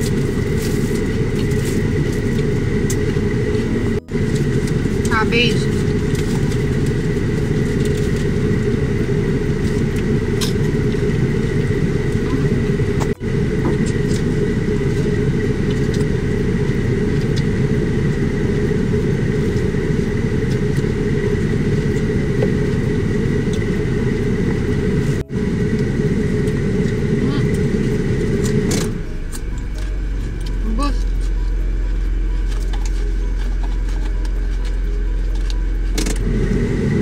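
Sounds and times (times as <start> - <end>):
thin high whine: 0.0 - 37.0
vehicle engine idling: 0.0 - 37.0.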